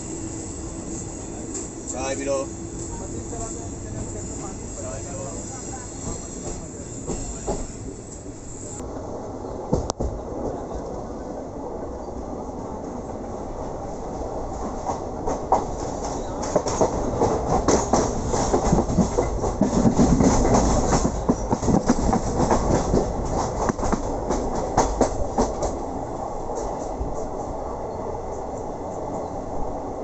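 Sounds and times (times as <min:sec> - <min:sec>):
train rumble on rails: 0:00.0 - 0:30.0.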